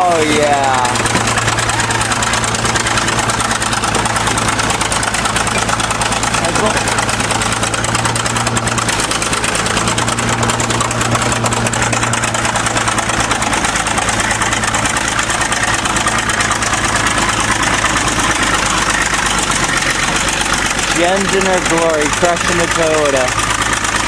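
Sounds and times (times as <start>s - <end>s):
bulldozer diesel engine clattering: 0.0s - 24.0s.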